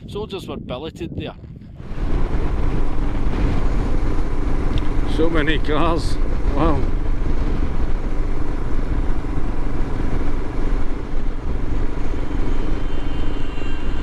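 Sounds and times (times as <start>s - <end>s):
wind and road noise: 0.0s - 14.0s
motorcycle engine running: 1.8s - 13.6s.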